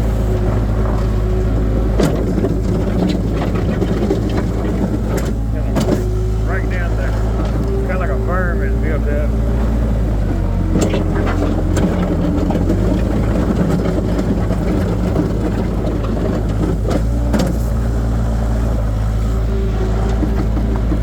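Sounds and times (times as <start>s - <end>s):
diesel engine droning under load: 0.0s - 21.0s.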